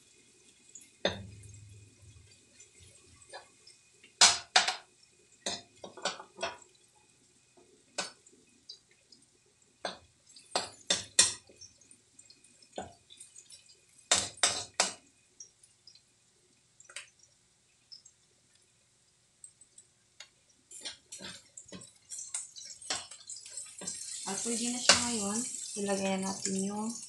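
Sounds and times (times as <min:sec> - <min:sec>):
onions sauteing: 0:00.0 - 0:19.0, 0:19.8 - 0:27.0.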